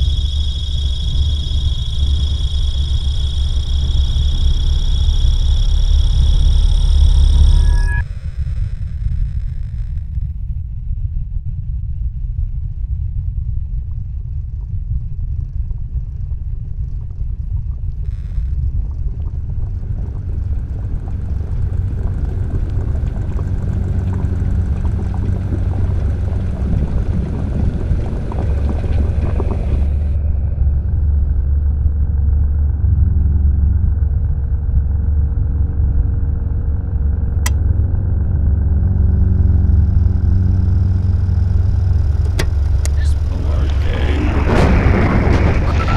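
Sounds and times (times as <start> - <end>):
crackling noise with faint tones: 0.0 - 45.9
deep low rumble: 0.0 - 45.9.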